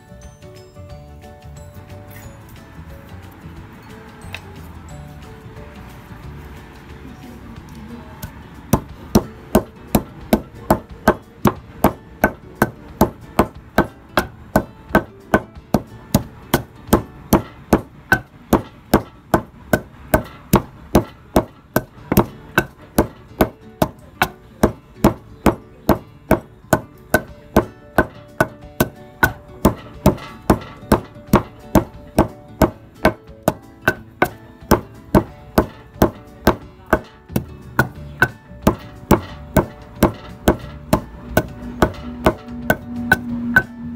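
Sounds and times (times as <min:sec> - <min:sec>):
pestle pounding in mortar: 0:08.2 - 0:43.9.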